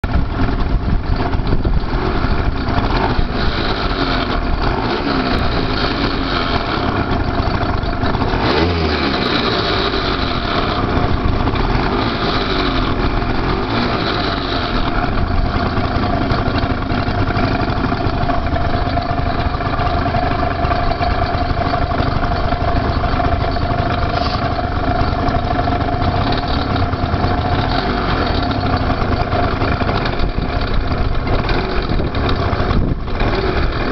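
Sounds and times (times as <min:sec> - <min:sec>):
drivetrain whine: 0:00.0 - 0:33.9
scooter engine revving: 0:00.0 - 0:33.9.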